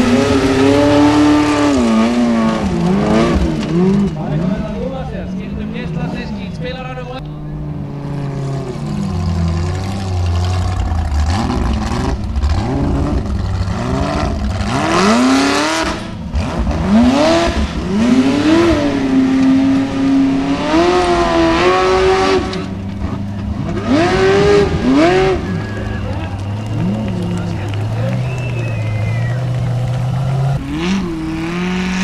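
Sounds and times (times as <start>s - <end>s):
buggy engine revving hard: 0.0s - 6.6s, 7.4s - 32.0s.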